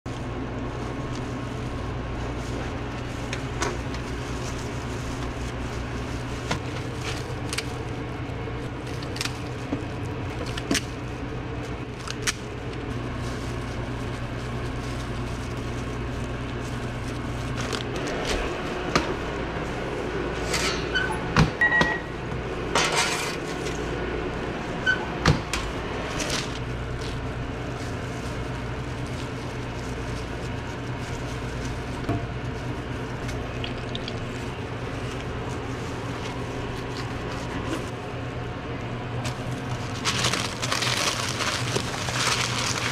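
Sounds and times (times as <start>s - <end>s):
wrapping paper rustling: 0.1s - 20.3s, 25.9s - 38.3s, 39.1s - 42.9s
steady low hum: 0.1s - 42.9s.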